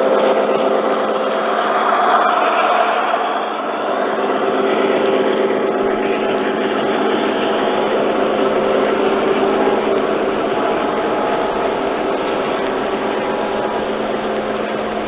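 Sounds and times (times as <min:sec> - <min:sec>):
model train hum: 0:00.0 - 0:15.0
model train rumble: 0:00.0 - 0:15.0.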